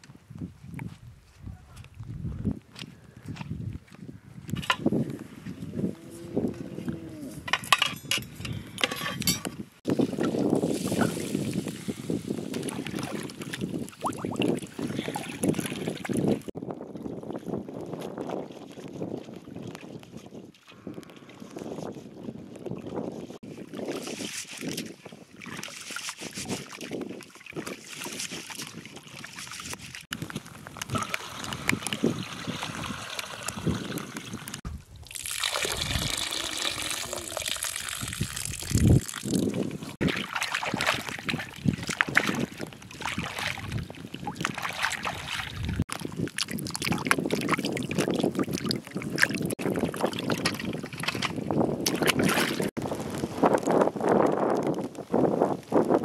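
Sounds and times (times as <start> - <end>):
water sloshing and trickling: 5.4 - 21.2, 22.2 - 53.1.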